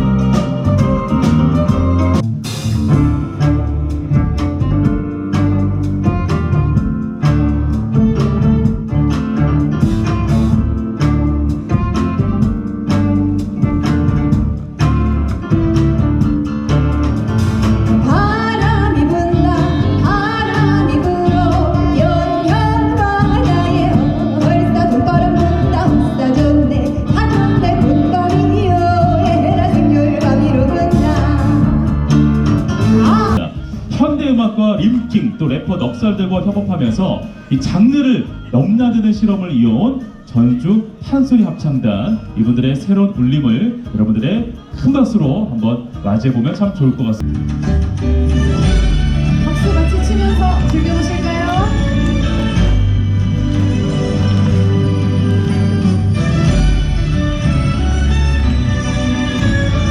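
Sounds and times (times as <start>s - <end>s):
string instrument music: 0.0s - 59.9s.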